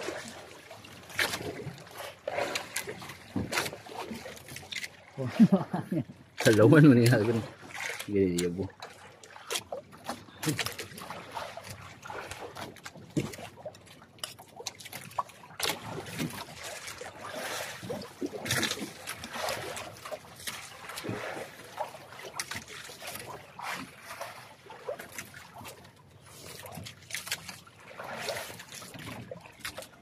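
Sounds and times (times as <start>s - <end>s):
sea water splashing against hull: 0.0s - 30.0s.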